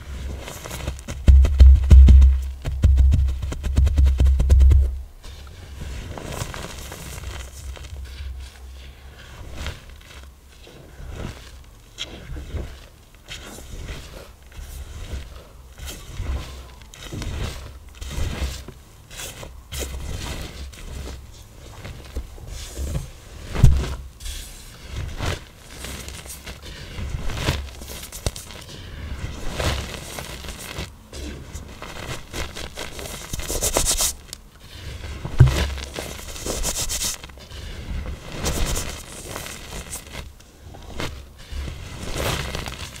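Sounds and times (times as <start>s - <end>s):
soft hissing crumble: 0.0s - 43.0s.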